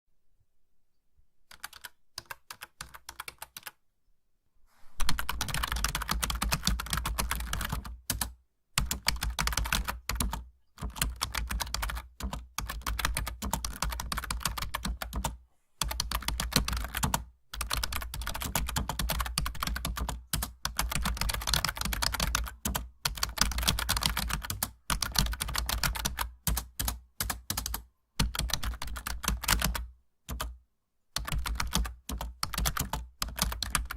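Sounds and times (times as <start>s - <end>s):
typing on laptop keyboard: 1.4s - 3.8s, 5.0s - 30.6s, 31.2s - 33.9s.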